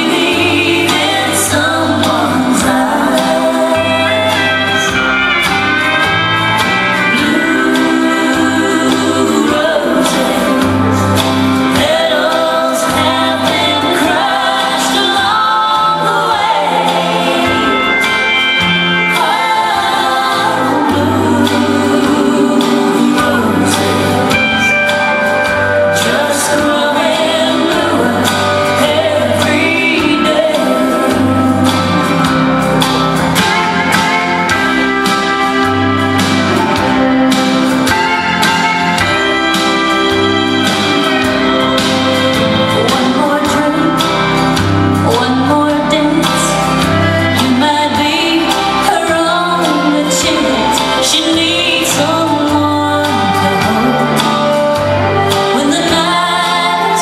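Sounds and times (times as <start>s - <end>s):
country song over loudspeakers: 0.0s - 57.0s.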